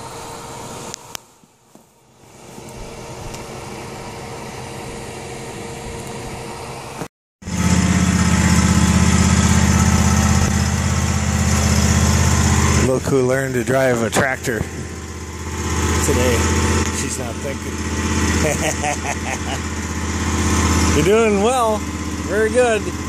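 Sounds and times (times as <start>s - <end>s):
lawn tractor engine running: 2.2s - 23.0s.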